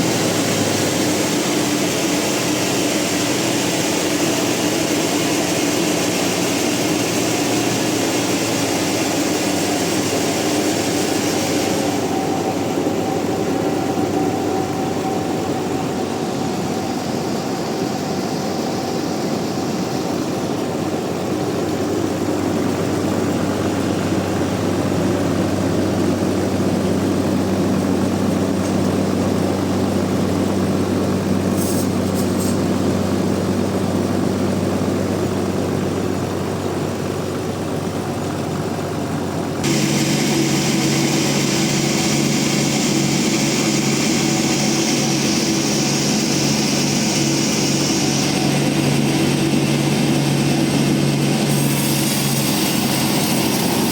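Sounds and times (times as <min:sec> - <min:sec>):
band sawmill machinery humming: 0:00.0 - 0:53.9.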